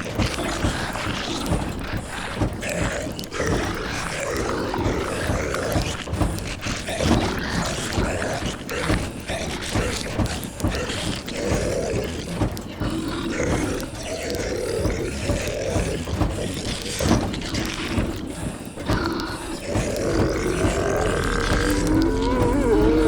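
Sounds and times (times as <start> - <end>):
creaking and rattling: 0.0 - 23.0
zombie groans and moans: 1.4 - 23.0.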